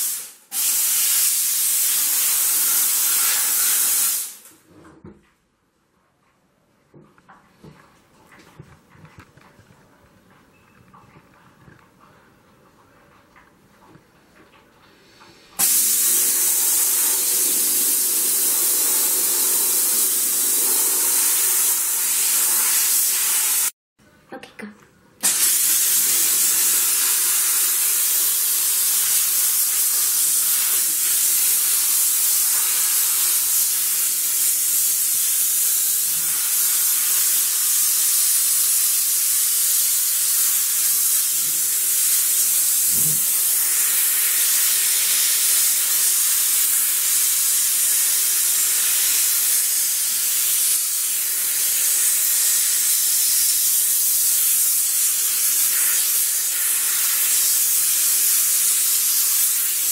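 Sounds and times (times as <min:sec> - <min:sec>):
steam cleaner hissing: 0:00.0 - 0:04.6, 0:15.0 - 0:23.8, 0:25.2 - 0:59.9.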